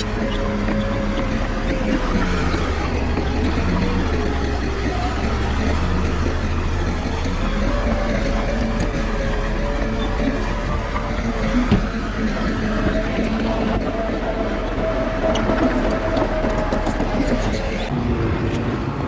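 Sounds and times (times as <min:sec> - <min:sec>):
diesel engine running: 0:00.0 - 0:18.4.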